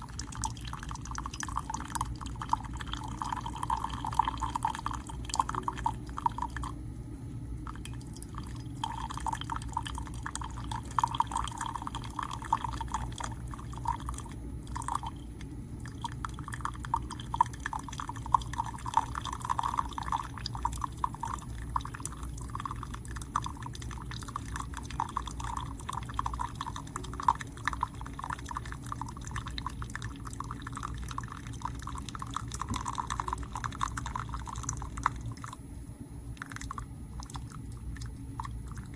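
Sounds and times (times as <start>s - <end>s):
coffee dripping into a cup: 0.0s - 6.9s, 7.5s - 38.9s
coffee maker low hum: 0.0s - 38.9s.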